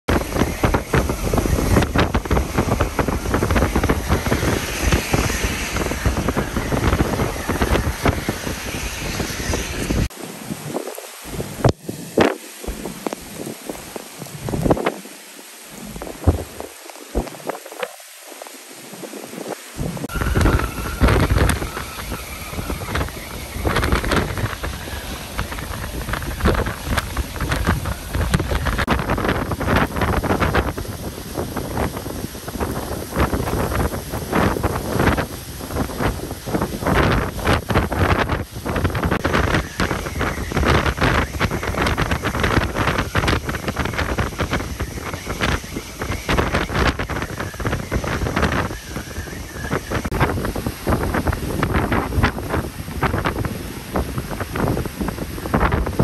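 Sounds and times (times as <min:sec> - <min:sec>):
wind gusting against microphone: 0:00.0 - 0:56.0
wind-driven rain hissing: 0:00.1 - 0:56.0.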